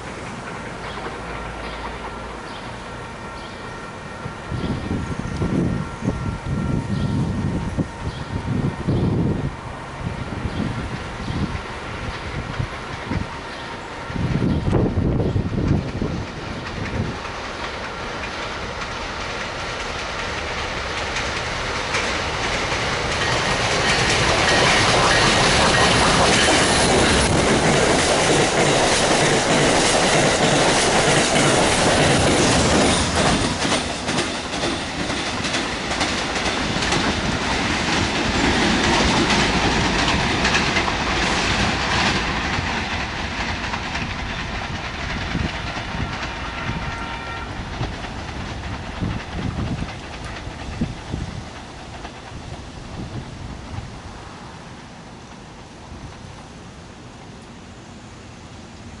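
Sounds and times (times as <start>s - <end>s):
train wheels clattering on rails: 0.0s - 54.4s.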